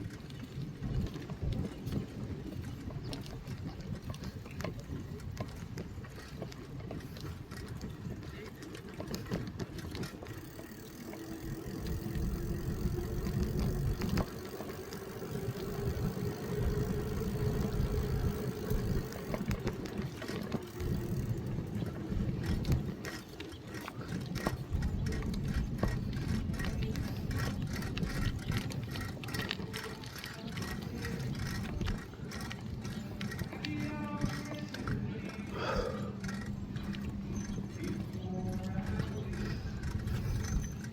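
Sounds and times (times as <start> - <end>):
bicycle tyres rolling: 0.0 - 40.9
bike clicks and rattles: 0.0 - 40.9
wind on microphone: 0.0 - 40.9.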